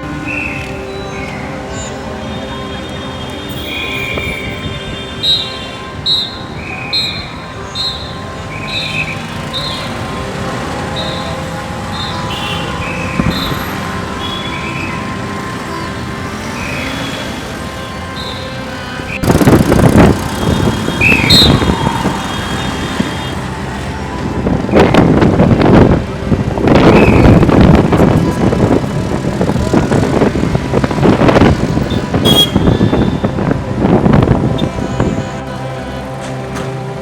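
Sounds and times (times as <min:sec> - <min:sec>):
gusty rumble of traffic: 0:00.0 - 0:37.0
vehicle traffic: 0:00.0 - 0:37.0.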